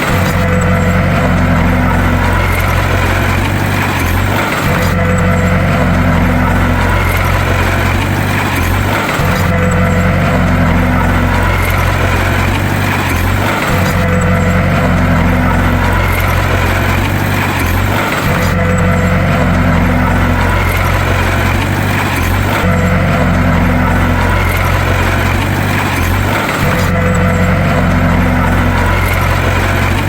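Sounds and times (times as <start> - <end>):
bulldozer engine droning: 0.0 - 30.0.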